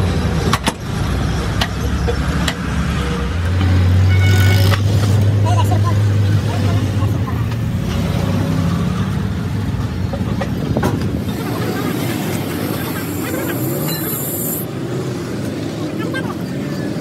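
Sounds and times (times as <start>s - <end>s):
roadside traffic: 0.0s - 17.0s.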